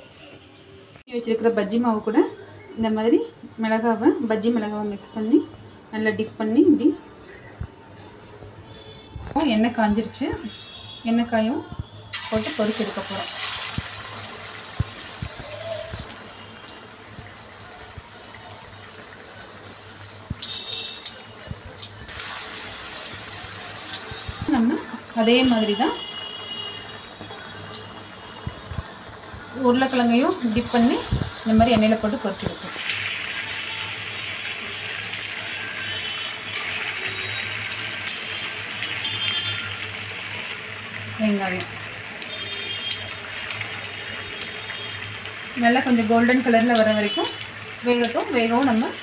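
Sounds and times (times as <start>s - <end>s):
chillies deep-frying in hot oil: 8.6s - 49.0s.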